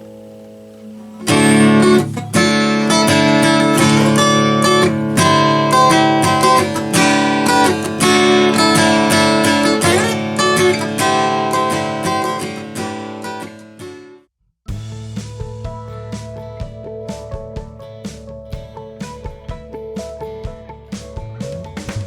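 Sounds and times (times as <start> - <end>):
acoustic guitar melody: 0.0 - 22.0.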